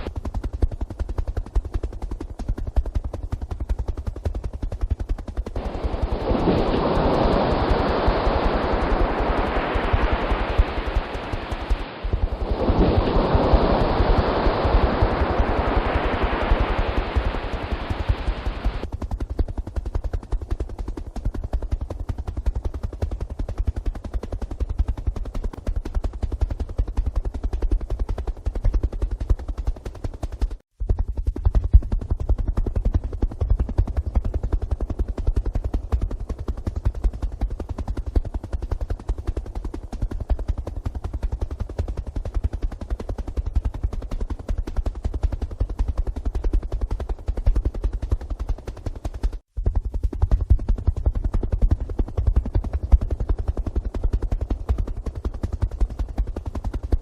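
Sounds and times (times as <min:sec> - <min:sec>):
helicopter rotor blades beating: 0:00.0 - 0:57.0.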